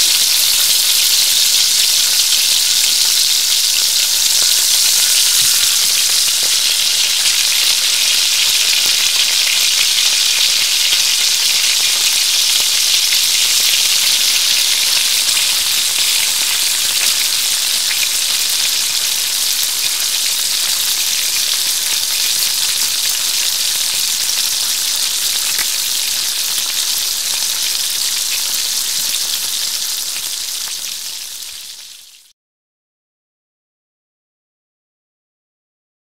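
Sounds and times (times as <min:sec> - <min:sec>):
food sizzling in hot oil: 0:00.0 - 0:32.3.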